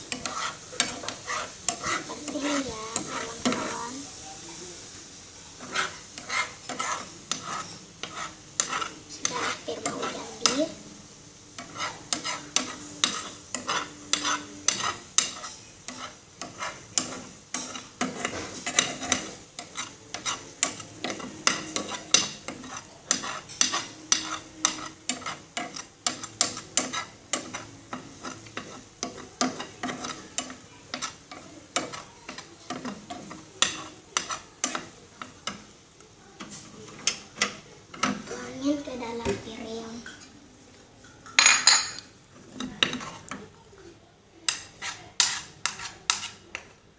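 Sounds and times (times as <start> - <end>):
spoon scraping and tapping a pan: 0.0 - 3.8, 5.6 - 10.8, 11.5 - 35.8, 36.4 - 38.3, 41.0 - 43.5, 44.5 - 46.8.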